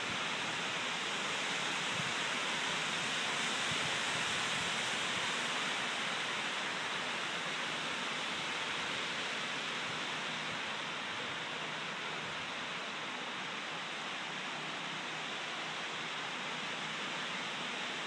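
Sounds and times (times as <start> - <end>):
strong wind through trees: 0.0 - 18.0.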